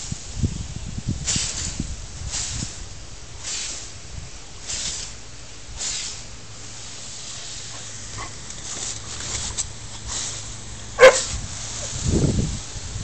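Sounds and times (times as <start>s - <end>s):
lawn sprinkler spraying water: 0.0s - 13.0s.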